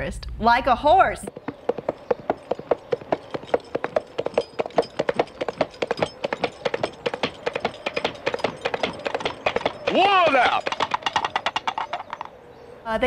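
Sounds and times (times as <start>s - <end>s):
coconut shells clip-clopping: 1.2s - 12.4s.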